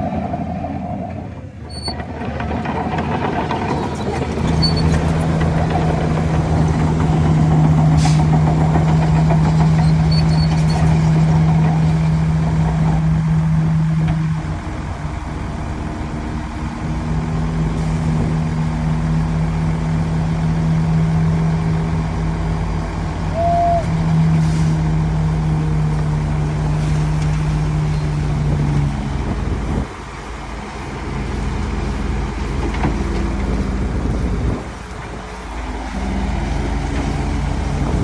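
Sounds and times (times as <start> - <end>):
diesel machinery engine hum: 0.0 - 38.0.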